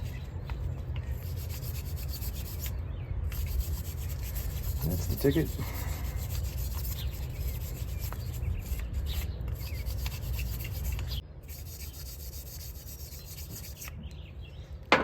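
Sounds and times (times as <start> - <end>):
hand scrubbing engine part: 0.0 - 14.0.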